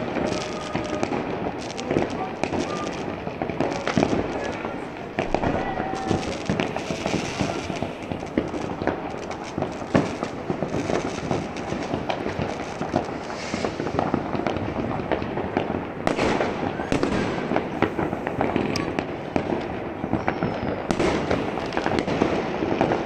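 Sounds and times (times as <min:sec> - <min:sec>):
fireworks and firecrackers banging: 0:00.0 - 0:23.0.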